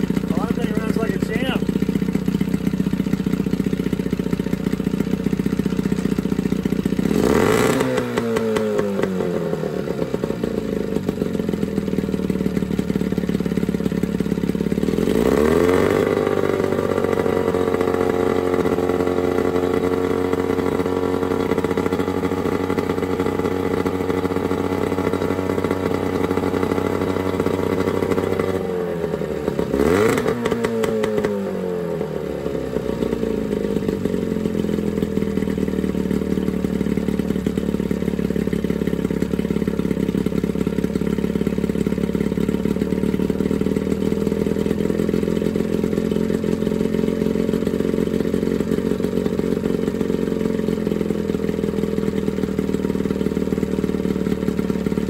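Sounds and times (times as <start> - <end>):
engine clatter: 0.0 - 55.0
outboard motor running: 0.0 - 55.0.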